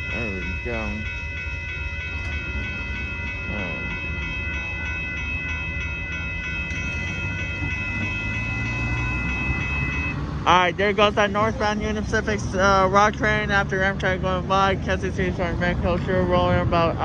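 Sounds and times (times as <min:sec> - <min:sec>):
crossing warning bell ringing: 0:00.0 - 0:17.0
train rumbling: 0:00.0 - 0:17.0.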